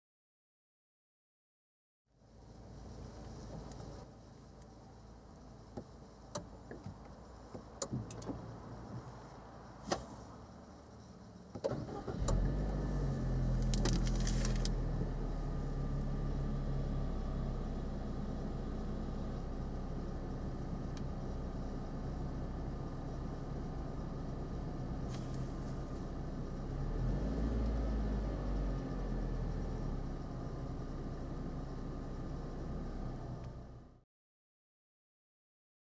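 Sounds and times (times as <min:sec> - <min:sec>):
car engine cranking and idling: 0:02.2 - 0:34.0.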